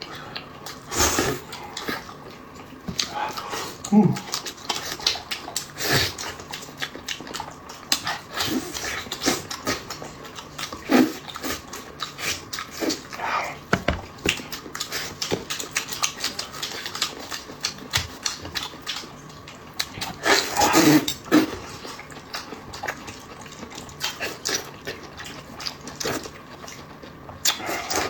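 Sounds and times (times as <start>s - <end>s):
wet chewing and lip smacking: 1.4s - 13.2s, 14.1s - 28.0s.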